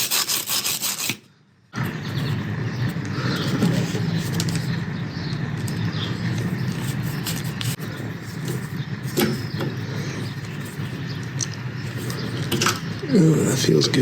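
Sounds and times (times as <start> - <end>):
low mechanical hum: 0.1 - 14.0.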